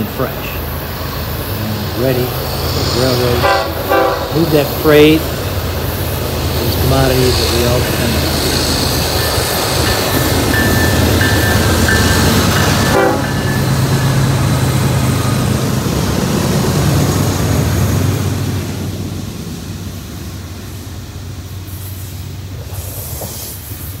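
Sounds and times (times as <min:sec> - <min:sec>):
diesel locomotive engines droning: 0:00.0 - 0:24.0
rail cars rolling on rails: 0:00.0 - 0:24.0.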